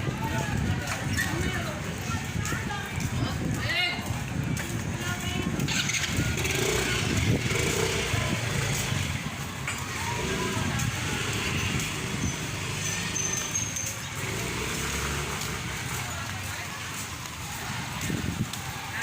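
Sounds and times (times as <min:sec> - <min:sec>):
faint voices: 0:00.0 - 0:19.0
vehicles passing: 0:00.0 - 0:19.0.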